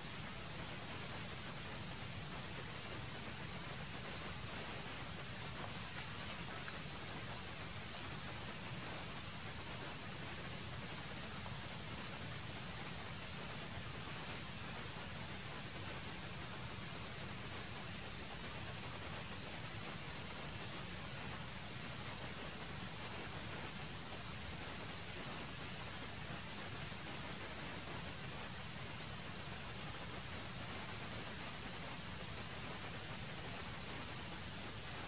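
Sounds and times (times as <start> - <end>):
background hiss: 0.0 - 35.0
high-pitched insect drone: 0.0 - 35.0.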